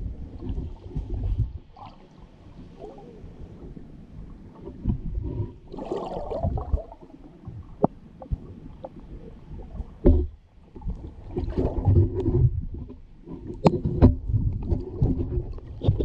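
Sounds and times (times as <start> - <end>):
muffled water sloshing and gurgling: 0.0 - 16.0.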